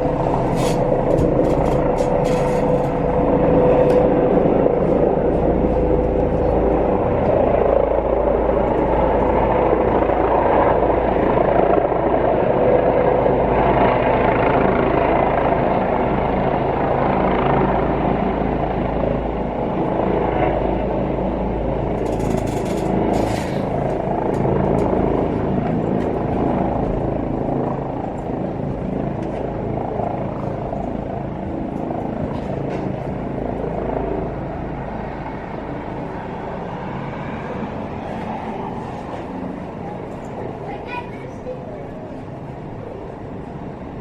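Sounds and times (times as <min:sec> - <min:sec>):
helicopter rotor and engine drone: 0:00.0 - 0:44.0.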